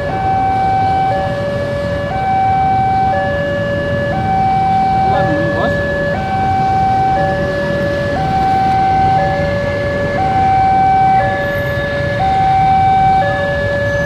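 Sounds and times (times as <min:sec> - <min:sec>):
two-tone siren: 0:00.0 - 0:14.0.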